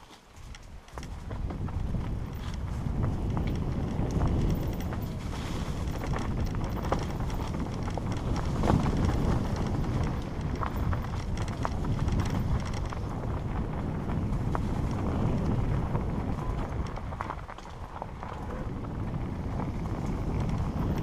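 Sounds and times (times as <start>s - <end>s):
bike clicks and rattles: 0.0s - 21.0s
wind buffeting microphone: 0.3s - 21.0s
tyres rumbling on dirt: 0.8s - 21.0s.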